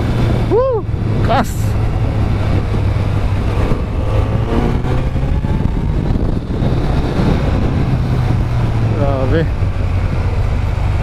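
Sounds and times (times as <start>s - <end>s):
motorcycle engine drone: 0.0s - 11.0s
wind noise on microphone: 0.0s - 11.0s.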